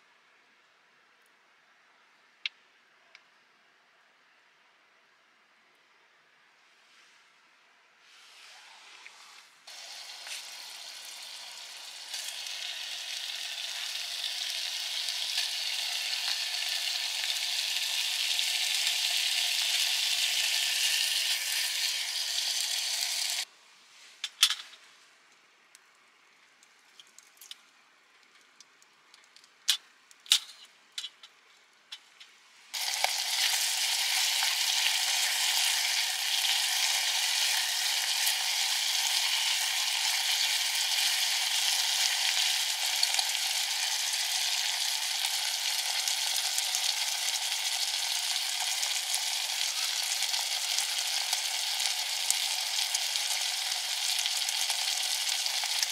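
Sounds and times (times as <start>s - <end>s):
steady sizzling hiss: 0.0s - 55.9s.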